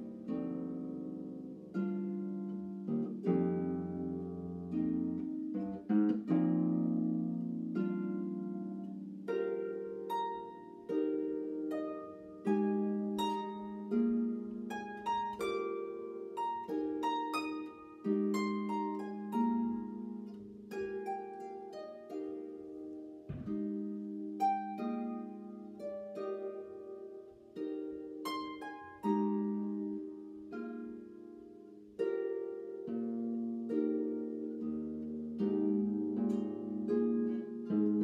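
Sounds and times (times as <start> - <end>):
solo harp playing: 0.0 - 38.0.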